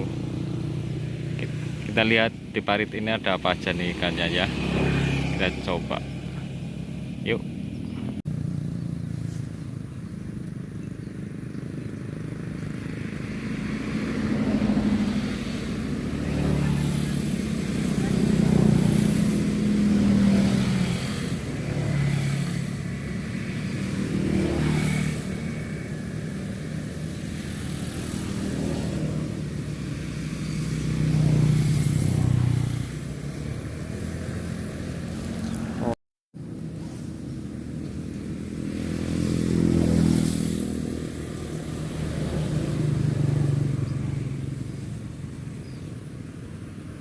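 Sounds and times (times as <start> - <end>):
cars passing: 0.0 - 47.0
motorcycles passing: 0.0 - 47.0.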